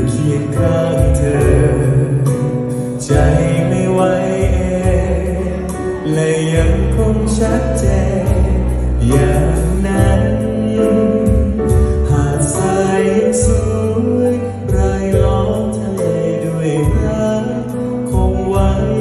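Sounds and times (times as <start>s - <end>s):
drum beat with cymbals: 0.0s - 17.5s
bass line: 0.0s - 19.0s.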